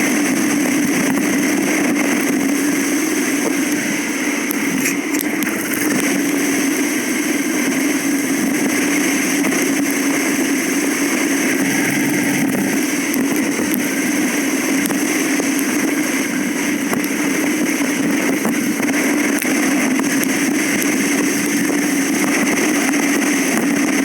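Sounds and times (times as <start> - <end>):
bike riding noise: 0.0 - 24.0.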